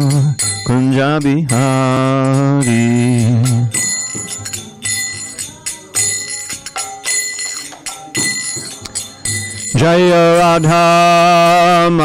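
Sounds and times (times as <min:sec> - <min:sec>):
hand cymbals struck: 0:00.0 - 0:12.0.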